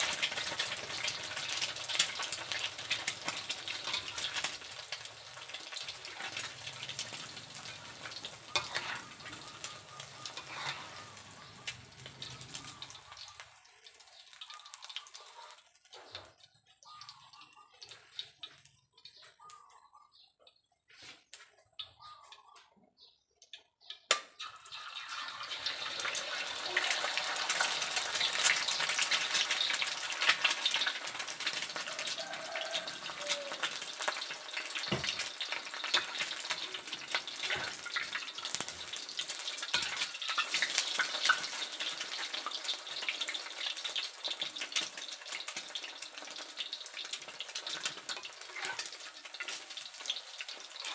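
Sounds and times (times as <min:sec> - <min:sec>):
egg frying in sizzling oil: 0:00.0 - 0:19.5, 0:23.9 - 0:50.9.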